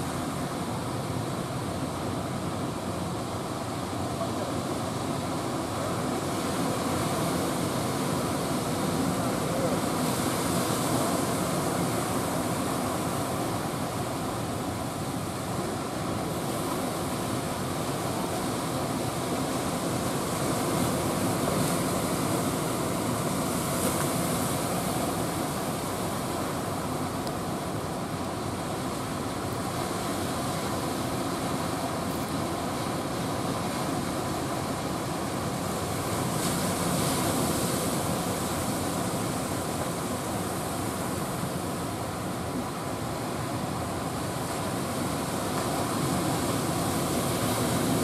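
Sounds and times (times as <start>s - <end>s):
sea surf breaking: 0.0s - 48.0s.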